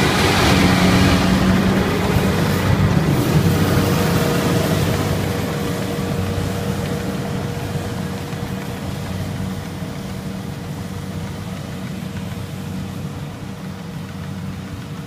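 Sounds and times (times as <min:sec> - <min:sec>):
combine harvester engine: 0:00.0 - 0:15.0
steady machine whine: 0:00.0 - 0:15.0.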